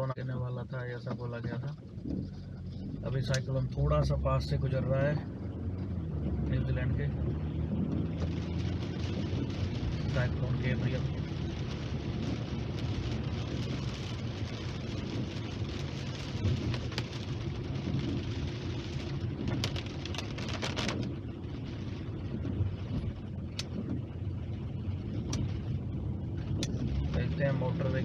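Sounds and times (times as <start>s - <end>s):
car road noise: 0.0s - 28.0s
rain on windscreen: 0.0s - 28.0s.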